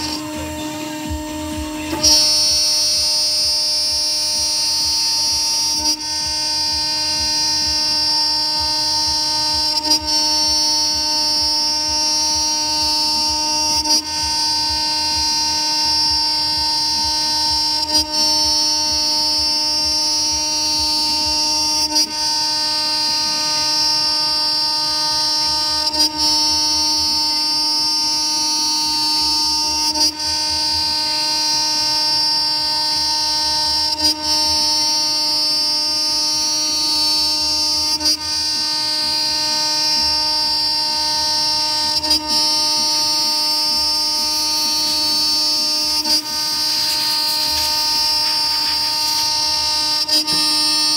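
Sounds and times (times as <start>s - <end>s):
router spindle milling metal: 0.0s - 50.9s.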